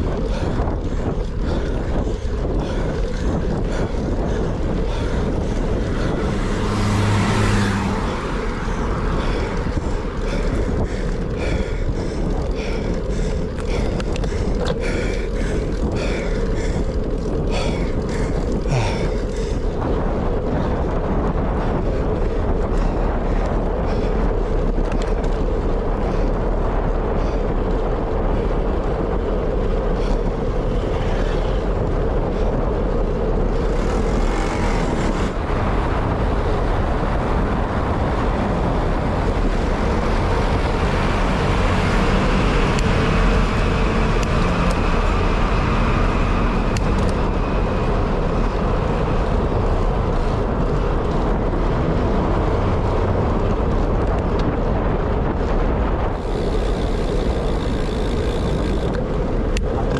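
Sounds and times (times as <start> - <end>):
road noise: 0.0 - 59.9
wind on microphone: 0.0 - 59.9.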